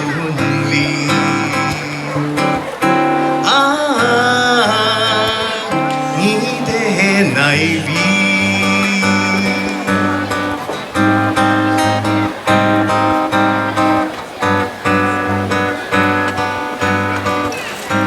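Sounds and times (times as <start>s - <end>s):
strummed guitar chords: 0.0s - 18.0s.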